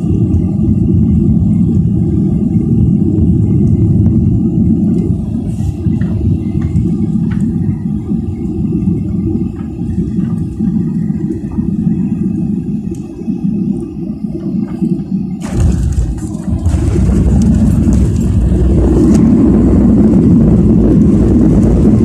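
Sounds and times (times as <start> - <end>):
airliner engines and airflow rumble: 0.0 - 22.0.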